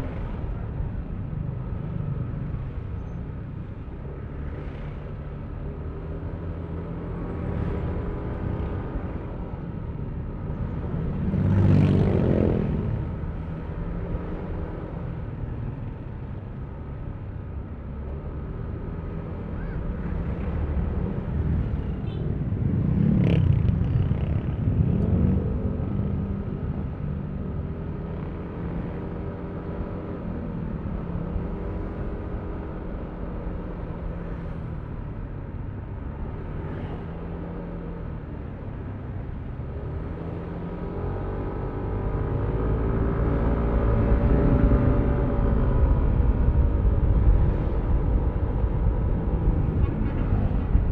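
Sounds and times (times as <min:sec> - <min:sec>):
road and wind noise: 0:00.0 - 0:50.9.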